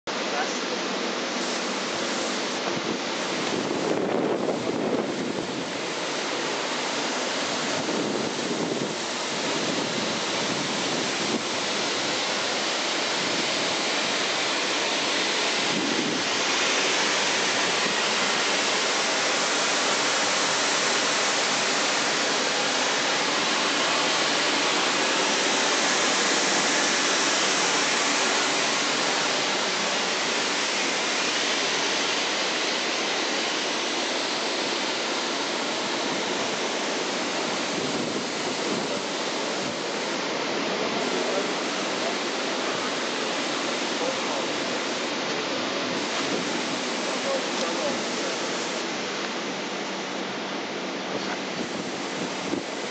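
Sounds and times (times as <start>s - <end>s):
electric blower rushing air: 1.1s - 50.4s.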